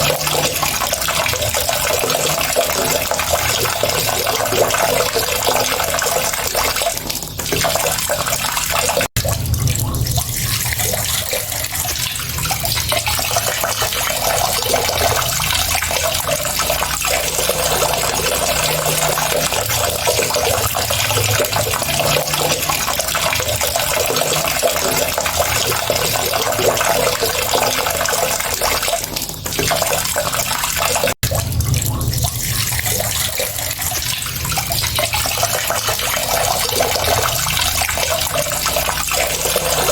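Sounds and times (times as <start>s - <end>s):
tap water running: 0.0s - 39.9s.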